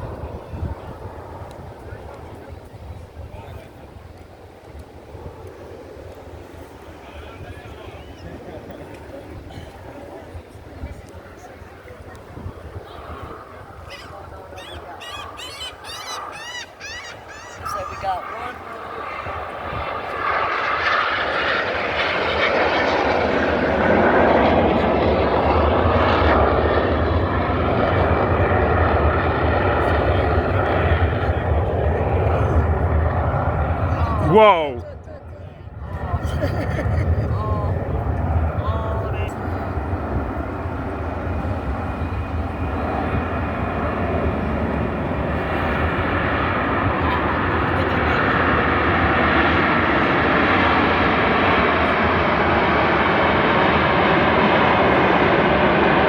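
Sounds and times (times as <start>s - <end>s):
aircraft engine roar: 0.0s - 56.0s.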